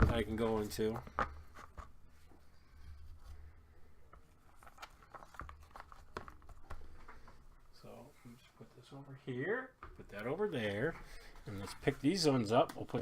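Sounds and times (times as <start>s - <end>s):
boxes and cards being handled: 0.0s - 7.6s, 10.0s - 13.0s.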